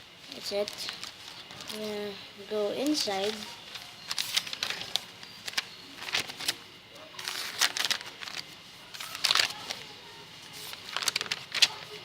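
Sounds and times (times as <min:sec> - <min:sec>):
paper pages rustling: 0:00.3 - 0:12.0.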